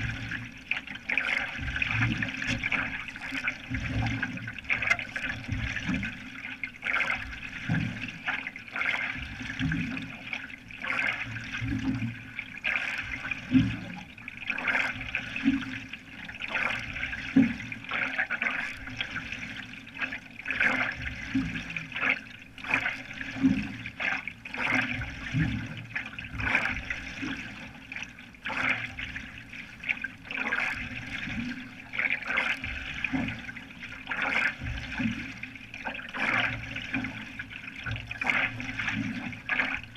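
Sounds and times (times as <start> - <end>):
paddle strokes through water: 0.0 - 39.9
water splashing around canoe: 0.0 - 39.9.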